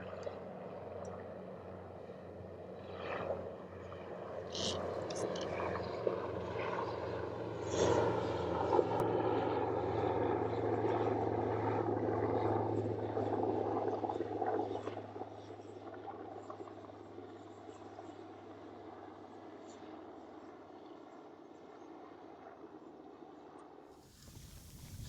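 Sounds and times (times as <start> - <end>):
plane droning overhead: 0.0 - 25.0.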